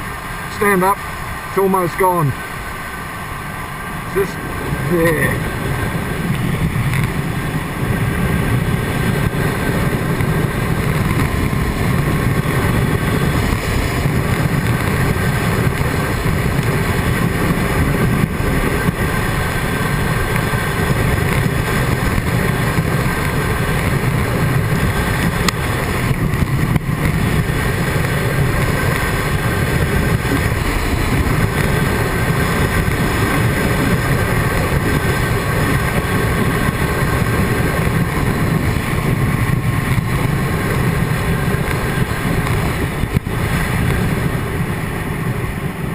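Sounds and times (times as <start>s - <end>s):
motorcycle engine running: 0.0s - 45.9s
wind roar in motorcycle helmet: 0.0s - 45.9s.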